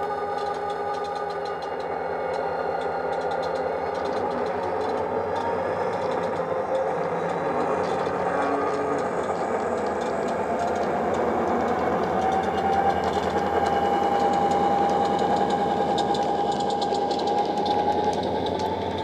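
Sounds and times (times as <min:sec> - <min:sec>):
diesel engine sound through small speaker: 0:00.0 - 0:19.0
model wheels ticking on track: 0:00.0 - 0:19.0.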